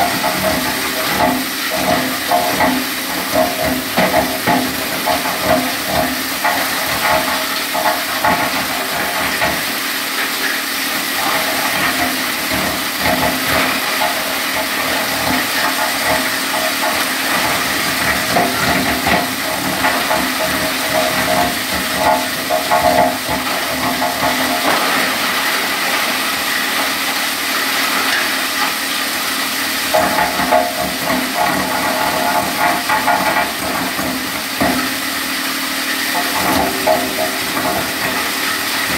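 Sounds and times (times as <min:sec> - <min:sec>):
wood crusher machine whine: 0:00.0 - 0:38.9.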